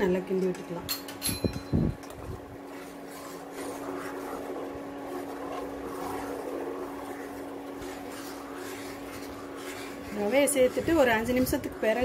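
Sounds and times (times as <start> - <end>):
ladle stirring in steel pot: 1.0 - 12.0
low hum: 1.2 - 12.0.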